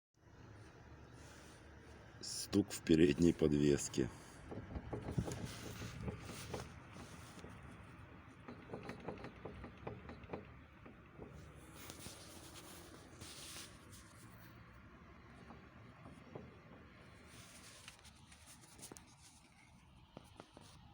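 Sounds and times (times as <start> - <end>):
steering knocks and clicks: 2.9 - 20.9.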